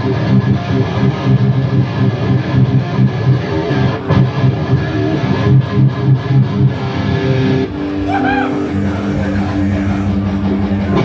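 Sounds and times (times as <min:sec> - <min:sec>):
electric guitar metal riff: 0:00.0 - 0:11.0.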